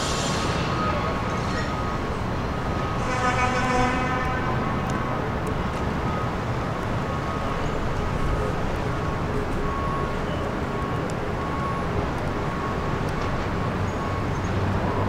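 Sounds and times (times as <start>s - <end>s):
locomotive diesel engine rumbling: 0.0s - 15.0s.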